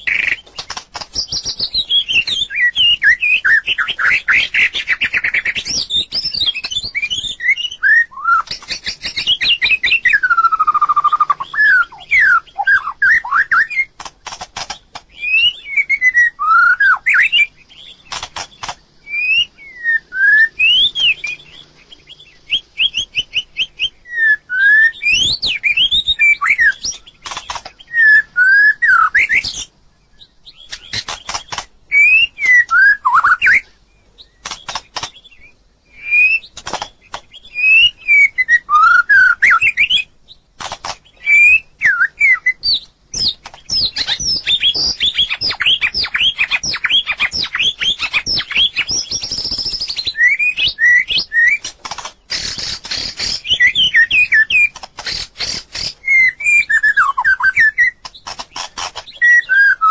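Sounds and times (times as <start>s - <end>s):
bird singing whistled song: 0.0s - 40.4s, 41.0s - 59.9s.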